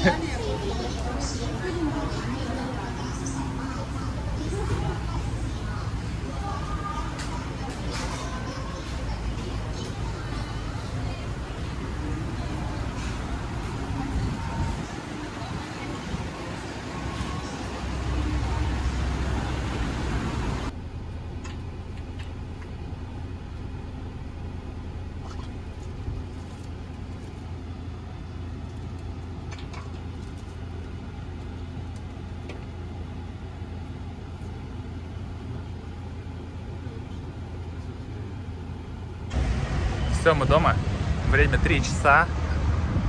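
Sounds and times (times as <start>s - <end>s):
minibus engine hum: 0.0s - 43.0s
open-air background noise: 0.0s - 43.0s.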